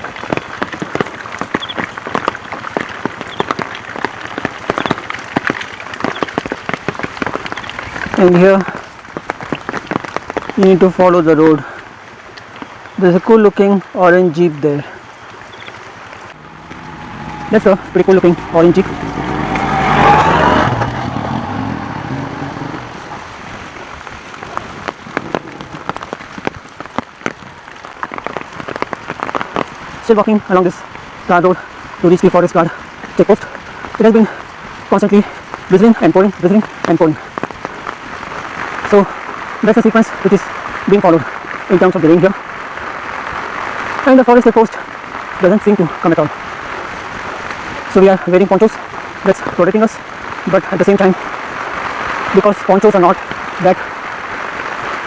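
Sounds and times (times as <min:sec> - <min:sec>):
heavy rain pattering: 0:00.0 - 0:55.0.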